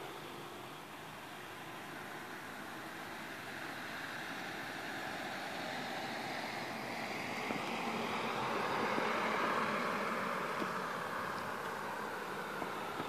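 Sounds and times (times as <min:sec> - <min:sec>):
passing vehicle rushing: 0:01.8 - 0:13.0.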